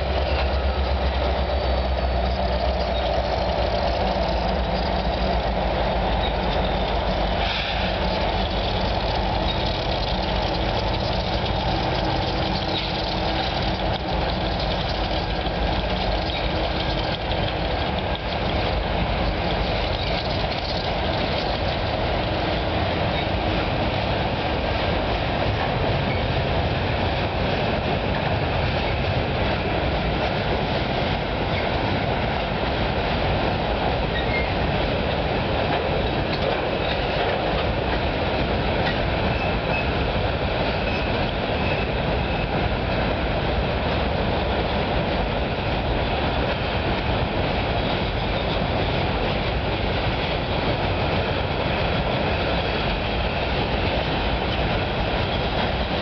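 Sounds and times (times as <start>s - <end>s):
freight train rolling over steel bridge: 0.0s - 56.0s
train wheels clattering: 0.0s - 56.0s.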